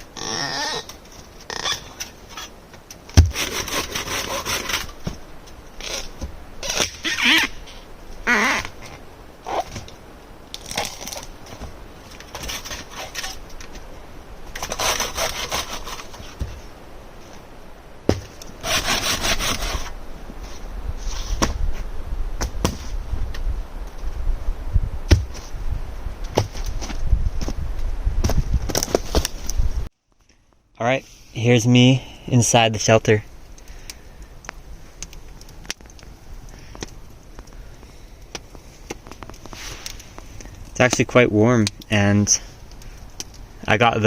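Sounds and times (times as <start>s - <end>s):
scraping and crunching: 0.0s - 24.2s, 26.2s - 31.2s, 32.8s - 44.0s.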